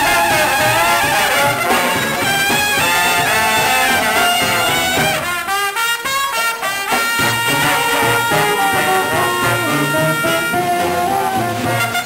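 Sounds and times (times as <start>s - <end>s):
brass band playing: 0.0s - 12.0s.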